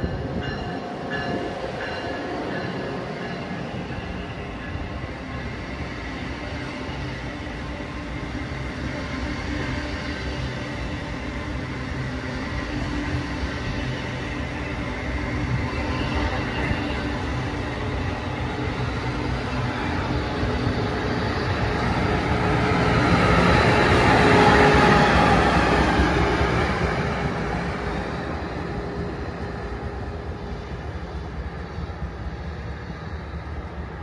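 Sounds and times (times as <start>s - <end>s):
train passing at speed: 0.0s - 34.0s.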